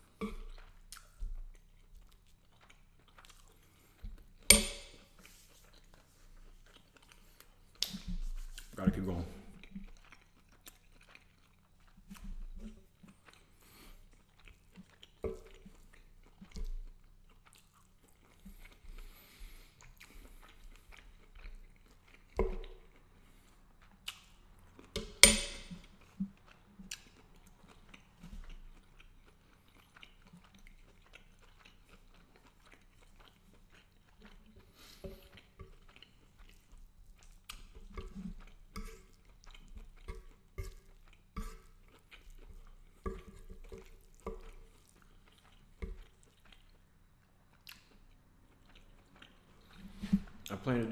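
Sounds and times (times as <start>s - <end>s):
close-up chewing: 0.0s - 50.9s.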